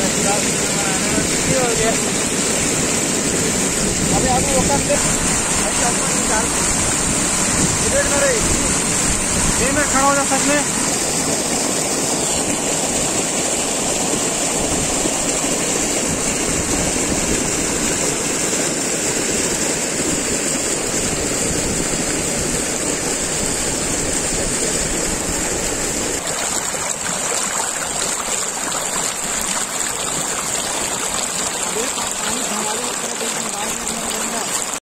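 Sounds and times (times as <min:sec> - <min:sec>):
waterfall rushing over rocks: 0:00.0 - 0:34.8.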